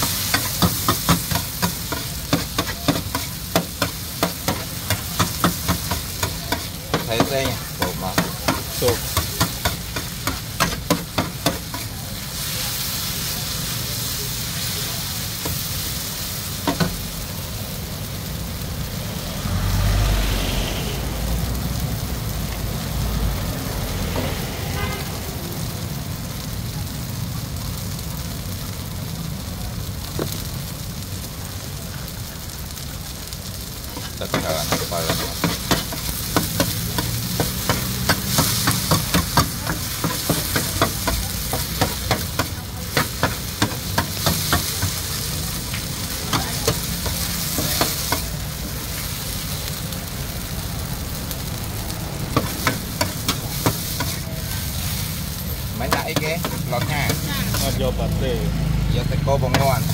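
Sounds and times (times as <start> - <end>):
noodles sizzling in oil: 0.0 - 59.9.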